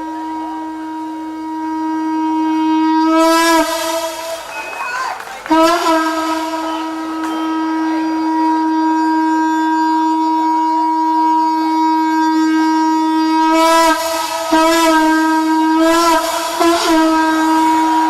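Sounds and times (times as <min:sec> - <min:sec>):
conch shell blown: 0:00.0 - 0:18.0.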